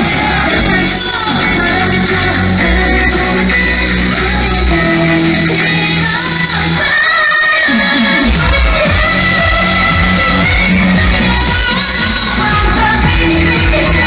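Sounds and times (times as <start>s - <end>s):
live pop music with singing: 0.0s - 14.0s.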